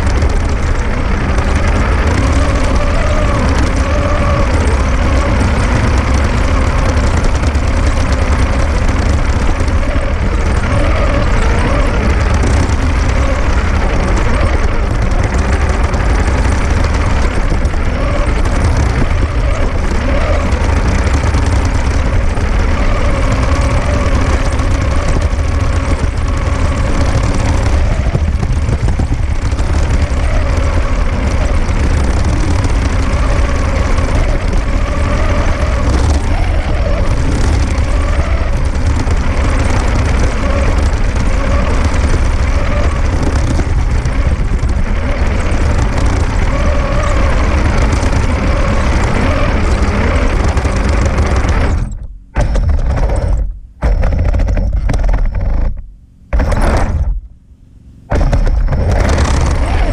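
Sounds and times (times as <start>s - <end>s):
toy tank motors whining: 0.0s - 57.3s, 58.1s - 59.9s
tracks rumbling: 0.0s - 59.9s.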